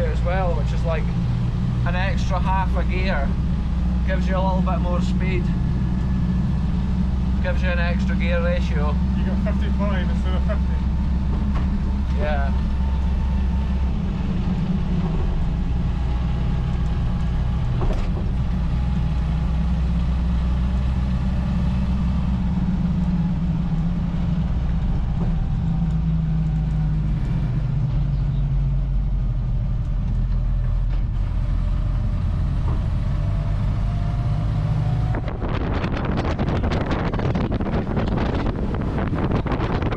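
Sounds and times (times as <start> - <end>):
vehicle engine droning: 0.0 - 39.9.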